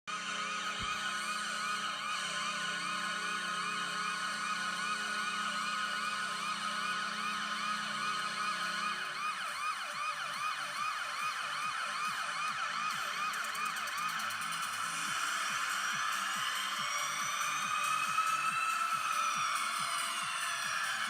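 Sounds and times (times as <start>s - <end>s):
warbling siren: 0.1s - 21.0s.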